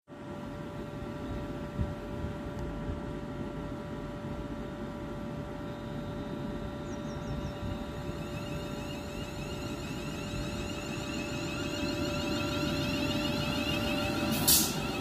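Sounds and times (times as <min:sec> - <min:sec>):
electric train humming: 0:00.3 - 0:15.0.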